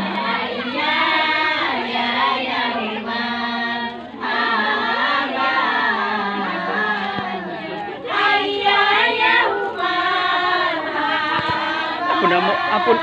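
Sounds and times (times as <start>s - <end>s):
women singing devotional chant: 0.0s - 13.0s.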